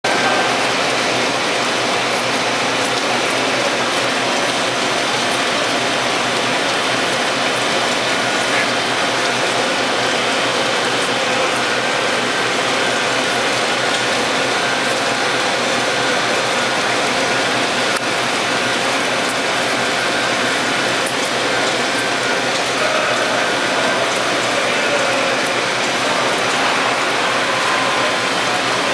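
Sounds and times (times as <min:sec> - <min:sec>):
machinery noise with hiss: 0:00.1 - 0:28.9.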